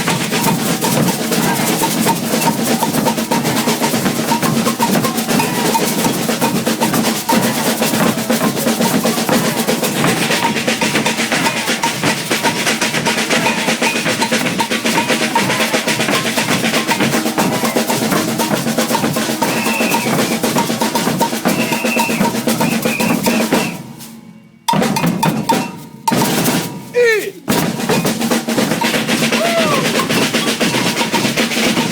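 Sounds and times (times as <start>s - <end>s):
bass and snare drum ensemble: 0.0s - 31.9s.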